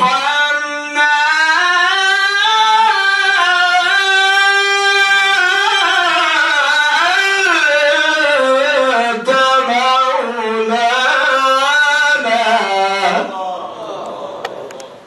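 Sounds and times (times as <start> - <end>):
man reciting melodically: 0.0 - 14.4.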